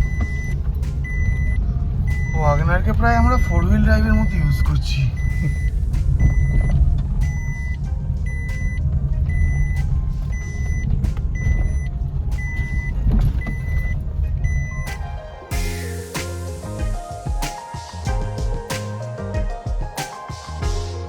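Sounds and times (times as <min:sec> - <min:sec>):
car engine and road rumble: 0:00.0 - 0:19.5.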